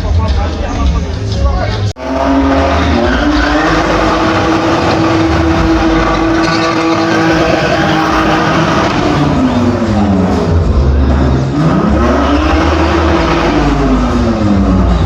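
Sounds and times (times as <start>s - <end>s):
car engine revving high: 2.0s - 15.0s.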